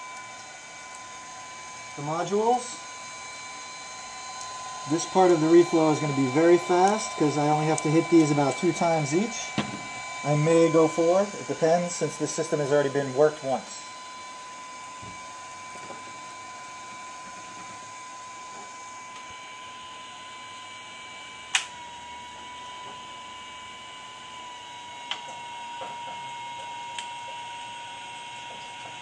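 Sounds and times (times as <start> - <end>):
high-pitched electrical whine: 0.0 - 29.0.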